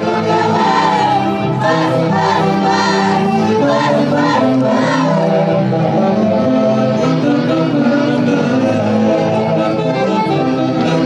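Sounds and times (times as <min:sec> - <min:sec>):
orchestra with saxophones: 0:00.0 - 0:11.0.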